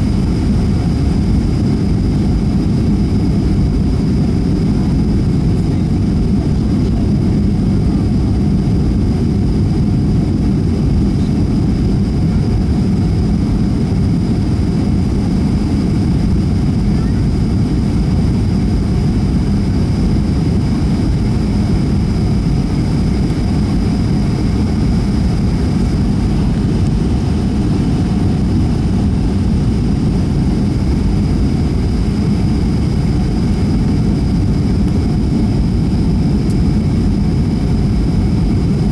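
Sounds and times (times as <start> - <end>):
airflow over fuselage: 0.0 - 38.9
jet engines roaring: 0.0 - 38.9
thin steady whine: 0.0 - 38.9.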